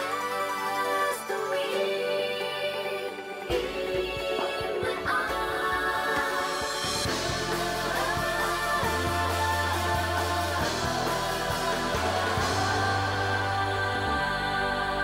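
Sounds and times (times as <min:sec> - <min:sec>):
rock song with vocals: 0:00.0 - 0:15.0.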